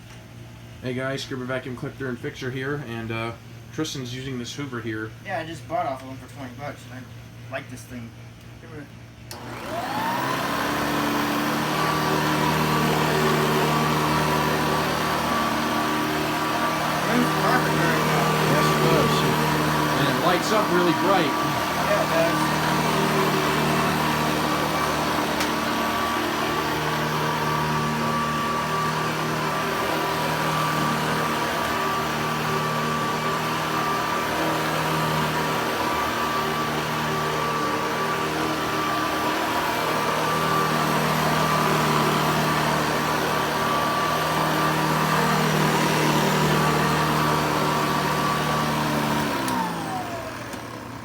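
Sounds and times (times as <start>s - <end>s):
vacuum cleaner running: 8.6s - 51.0s
vacuum motor winding down: 9.3s - 51.0s.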